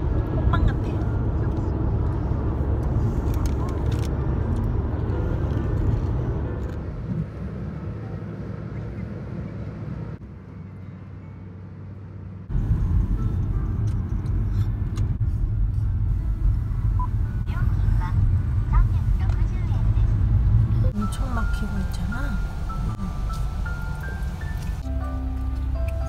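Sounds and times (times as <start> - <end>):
car cabin road noise: 0.0 - 26.0.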